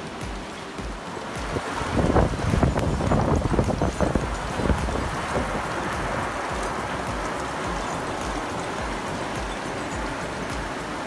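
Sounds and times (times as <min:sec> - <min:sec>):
rain hiss: 0:00.0 - 0:11.0
wind buffeting microphone: 0:00.0 - 0:11.0.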